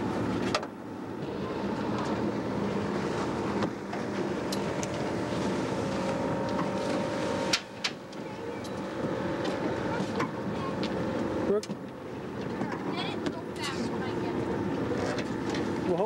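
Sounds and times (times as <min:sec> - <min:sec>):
outboard motor running: 0:00.0 - 0:16.0
water noise: 0:00.0 - 0:16.0.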